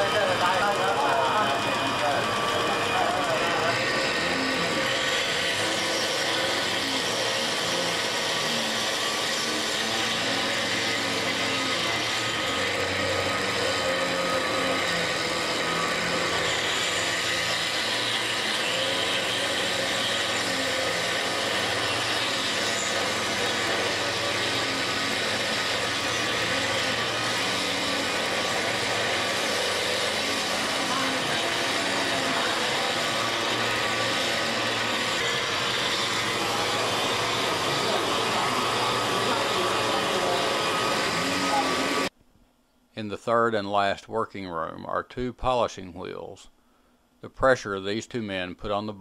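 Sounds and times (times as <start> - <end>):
grinding machinery whirring: 0.0 - 42.2.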